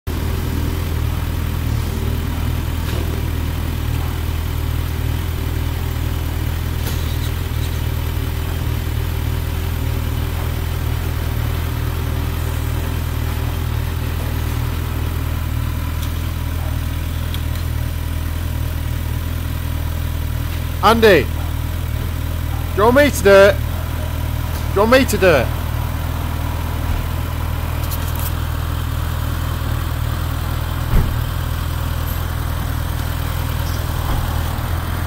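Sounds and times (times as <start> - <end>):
engine idling: 0.1 - 35.0.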